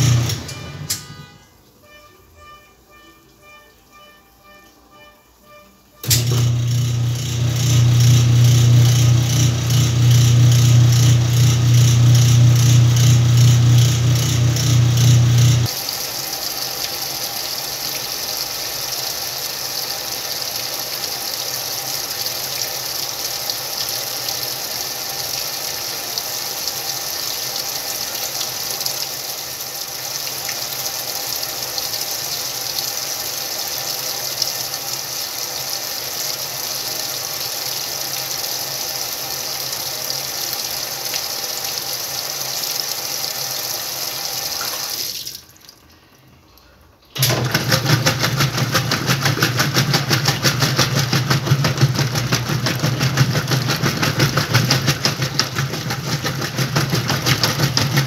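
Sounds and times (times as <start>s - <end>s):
water pouring into washing machine: 0.0s - 0.6s, 6.0s - 46.2s, 47.2s - 58.0s.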